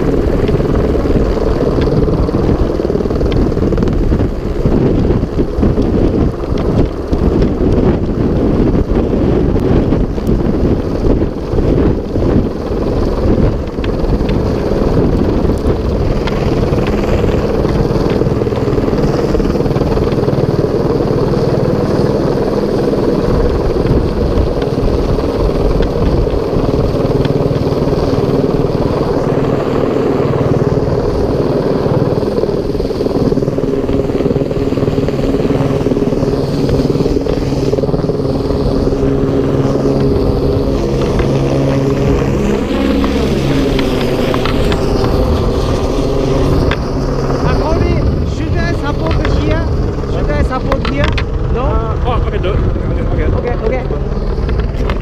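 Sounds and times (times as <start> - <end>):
helicopter rotor and turbine: 0.0 - 55.0
wind buffeting microphone: 0.0 - 55.0.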